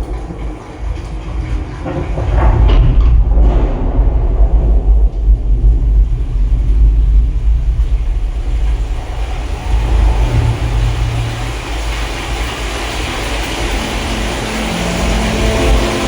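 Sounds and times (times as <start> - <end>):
deep bass rumble: 0.0 - 16.0
rushing noise: 0.0 - 16.0.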